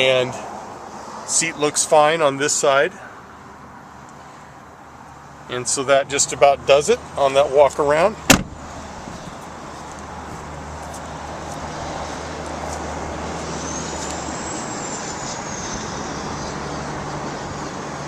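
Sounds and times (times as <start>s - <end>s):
road traffic rush: 0.0s - 18.0s.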